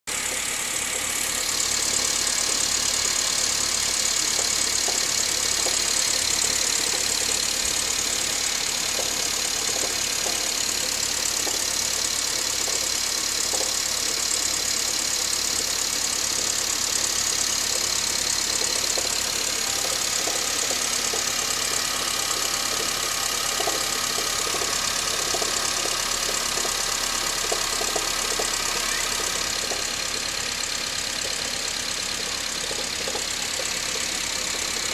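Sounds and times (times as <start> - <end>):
car engine idling: 0.0 - 34.9
faint engine knocking: 0.1 - 34.9.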